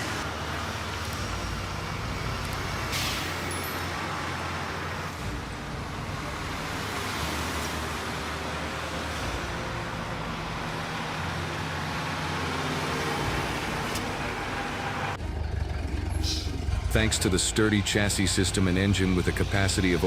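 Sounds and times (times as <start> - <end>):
truck engine running: 0.0 - 20.0
tyre and road noise: 0.0 - 20.0.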